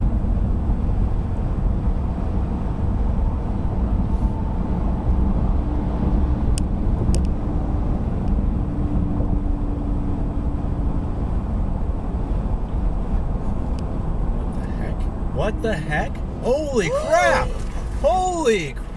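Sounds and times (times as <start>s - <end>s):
car road and engine rumble: 0.0s - 18.9s.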